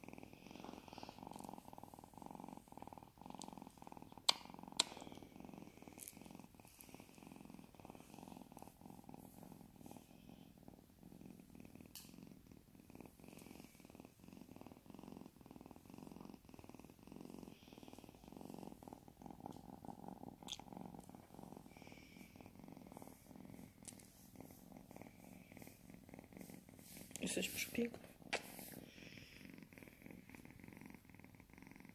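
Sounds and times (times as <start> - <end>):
cat purring: 0.0 - 31.9.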